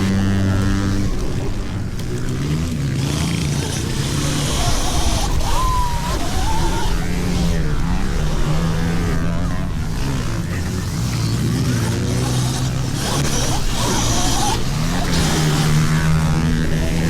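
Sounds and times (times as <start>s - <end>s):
small motorbike engines running: 0.0s - 17.0s
steady rushing noise: 0.0s - 17.0s.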